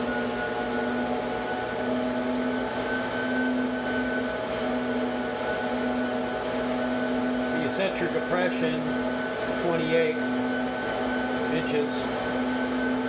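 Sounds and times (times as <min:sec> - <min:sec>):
flow bench motor humming: 0:00.0 - 0:13.0.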